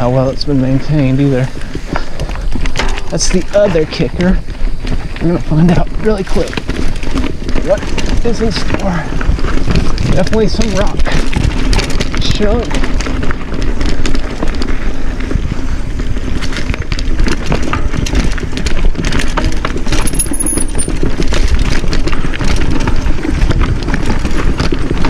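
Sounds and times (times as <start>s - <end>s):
bike clattering: 0.0s - 25.0s.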